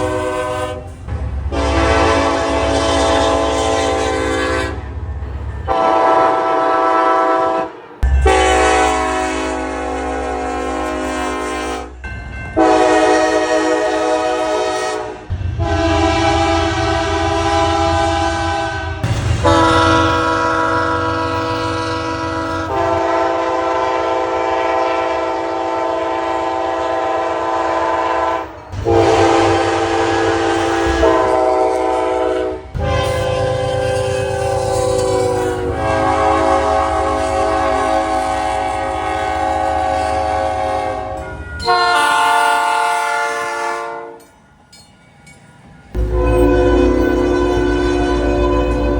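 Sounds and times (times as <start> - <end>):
locomotive air horns: 0.0 - 12.0, 12.6 - 44.4, 45.9 - 48.9
locomotive engine rumble: 0.0 - 48.9.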